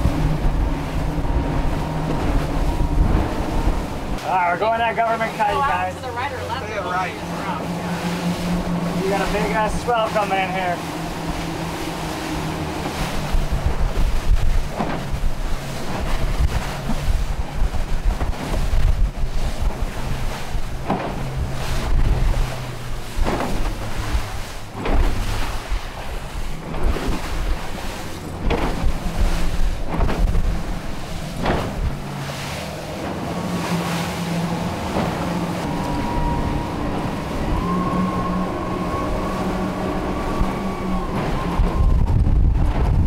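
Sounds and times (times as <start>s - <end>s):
hull slapping on waves: 0.0s - 43.0s
outboard motors droning: 0.0s - 43.0s
wind buffeting microphone: 0.0s - 43.0s.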